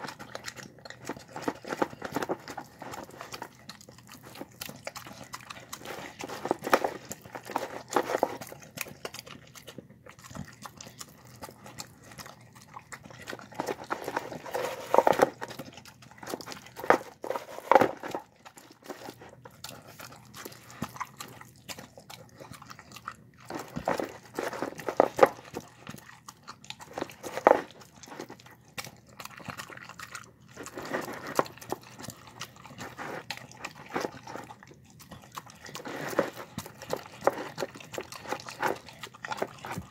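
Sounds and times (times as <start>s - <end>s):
dog eating wet smacking: 0.0s - 39.9s.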